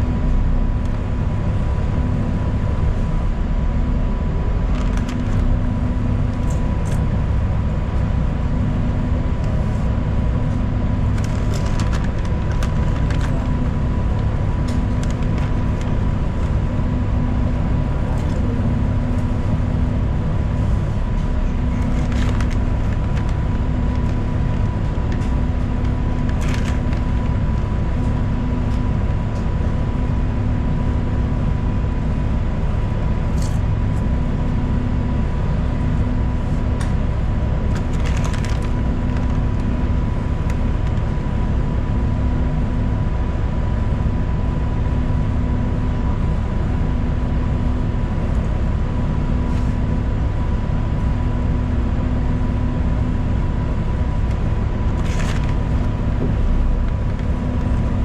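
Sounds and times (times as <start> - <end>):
bus engine and road drone: 0.0 - 58.0.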